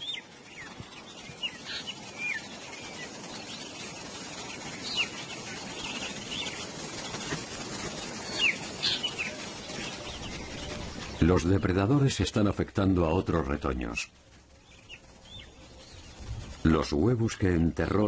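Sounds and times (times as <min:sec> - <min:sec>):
birds chirping: 0:00.0 - 0:18.0
outdoor background hiss: 0:00.0 - 0:18.0.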